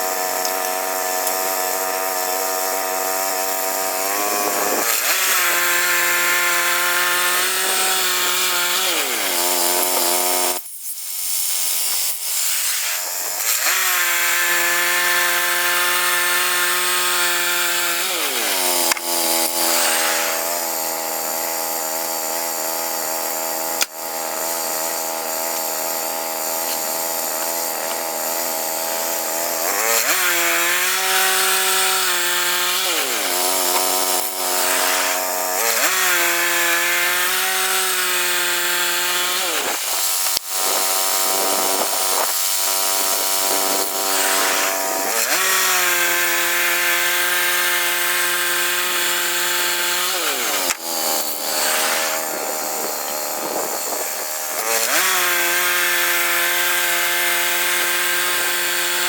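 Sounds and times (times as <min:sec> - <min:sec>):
band saw blade cutting log: 0:00.0 - 0:59.0.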